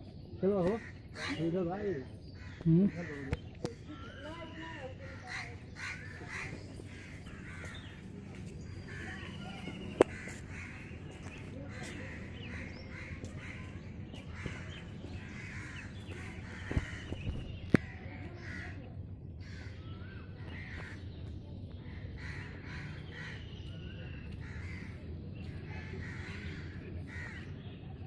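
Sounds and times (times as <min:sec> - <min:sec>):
crows cawing: 0:00.6 - 0:08.1, 0:08.8 - 0:21.0, 0:21.9 - 0:23.6, 0:24.2 - 0:27.6.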